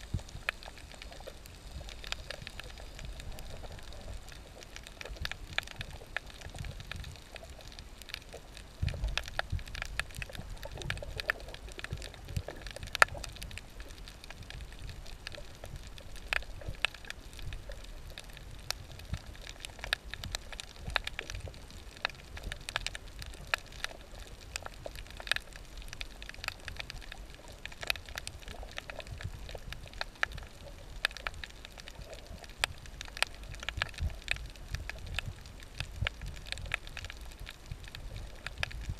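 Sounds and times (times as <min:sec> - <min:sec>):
low muffled underwater rumble: 0:00.0 - 0:38.9
snapping shrimp crackle: 0:00.0 - 0:38.9.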